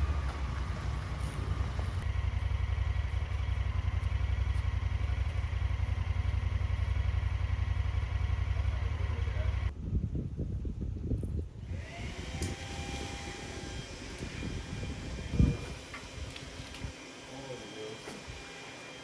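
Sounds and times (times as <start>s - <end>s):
motor running with low throb: 0.0s - 9.7s, 11.6s - 18.7s.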